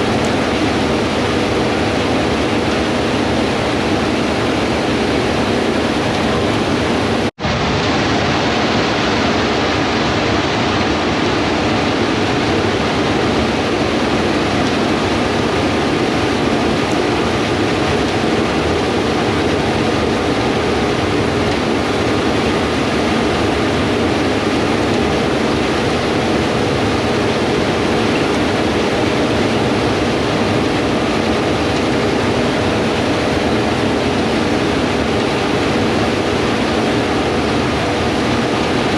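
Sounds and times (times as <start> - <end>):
harvest machinery droning: 0.0 - 38.9.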